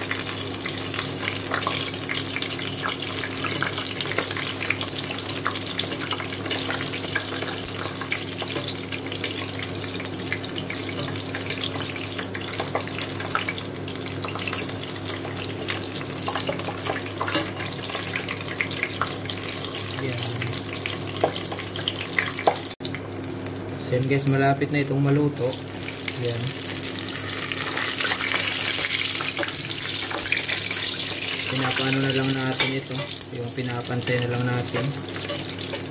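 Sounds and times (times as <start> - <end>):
oil sizzling and popping: 0.0 - 35.9.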